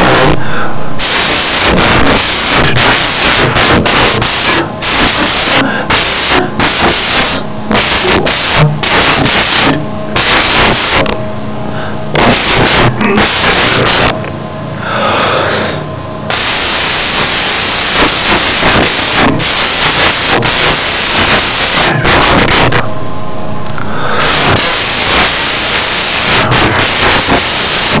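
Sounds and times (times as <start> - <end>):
electrical hum: 0.0 - 28.0
loud hissing static: 0.0 - 28.0.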